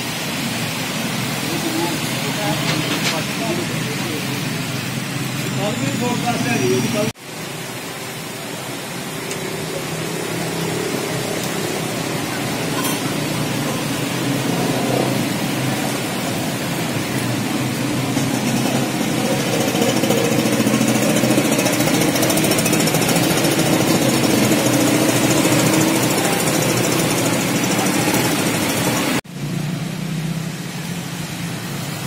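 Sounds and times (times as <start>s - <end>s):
hiss of water: 0.0s - 32.0s
motorcycle and van engines: 0.0s - 32.0s.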